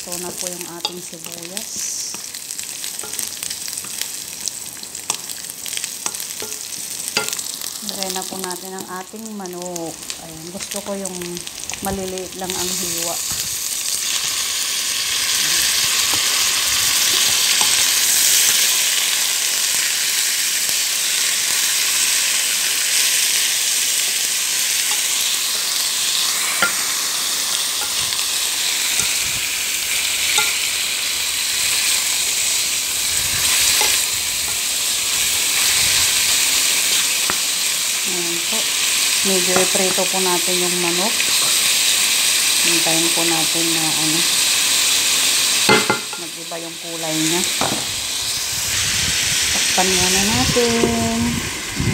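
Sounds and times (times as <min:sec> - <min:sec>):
chicken sizzling in oil: 0:00.0 - 0:51.9.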